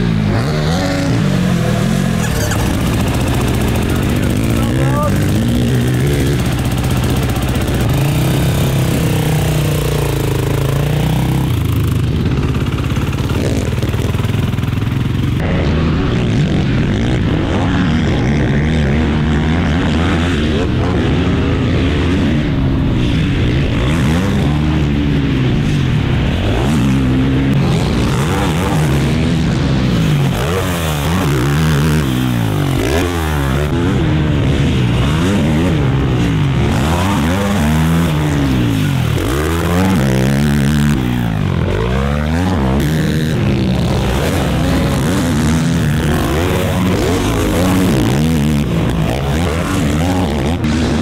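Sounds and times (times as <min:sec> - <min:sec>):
quad engine revving: 0:00.0 - 0:51.0.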